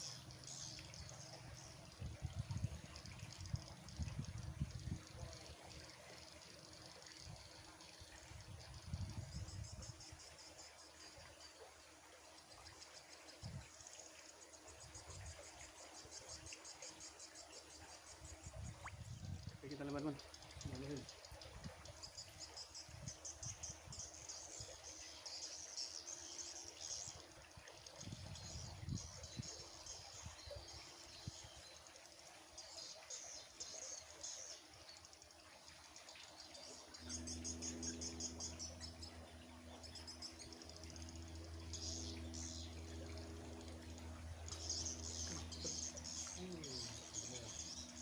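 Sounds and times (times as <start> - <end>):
insects chirping: 0.0 - 48.0
steady low hum: 0.0 - 48.0.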